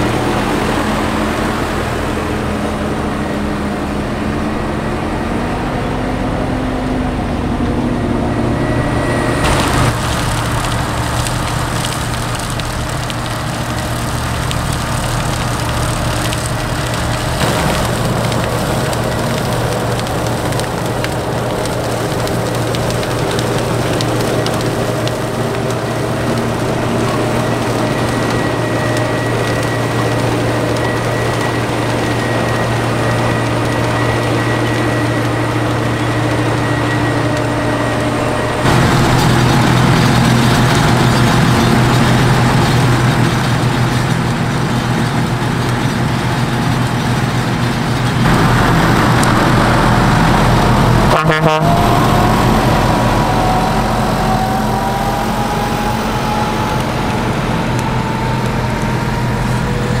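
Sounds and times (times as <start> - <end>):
rising whine: 0.0 - 44.4, 48.1 - 60.0
diesel engines running under load: 0.0 - 60.0.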